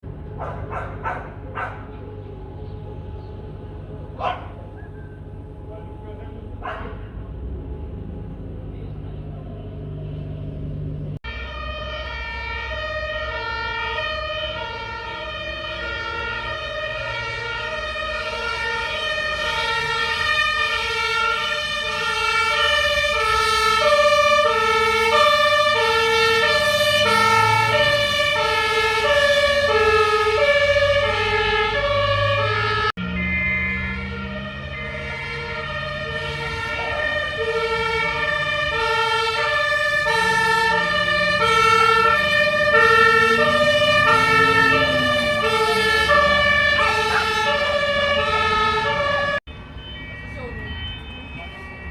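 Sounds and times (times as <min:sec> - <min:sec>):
two-tone emergency siren: 0:00.0 - 0:10.4, 0:11.1 - 0:51.9.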